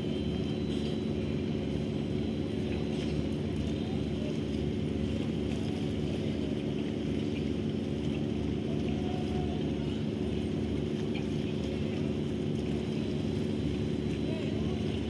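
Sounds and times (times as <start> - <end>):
ship engine droning: 0.0 - 15.0.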